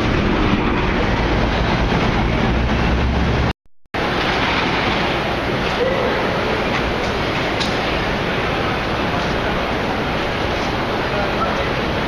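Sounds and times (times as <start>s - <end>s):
traffic: 0.0s - 12.0s.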